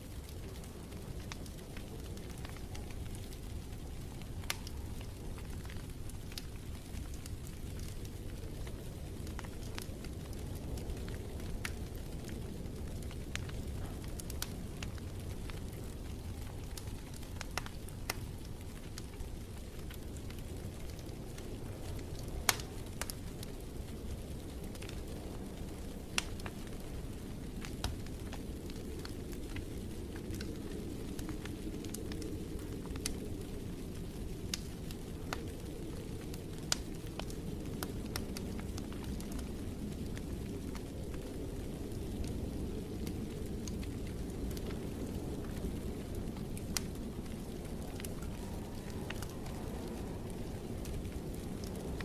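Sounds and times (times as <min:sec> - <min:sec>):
low fire rumble: 0:00.0 - 0:52.0
wood fire crackling: 0:00.0 - 0:52.0.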